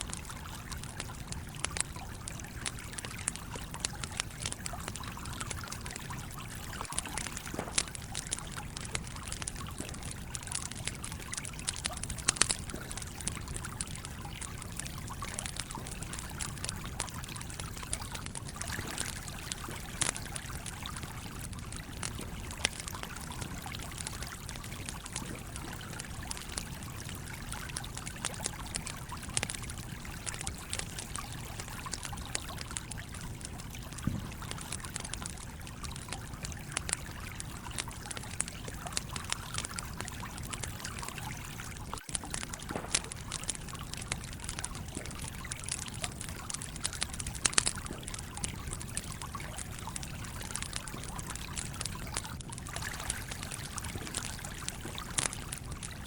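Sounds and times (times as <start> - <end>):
campfire crackling and popping: 0.0 - 56.0
stream flowing: 0.0 - 56.0.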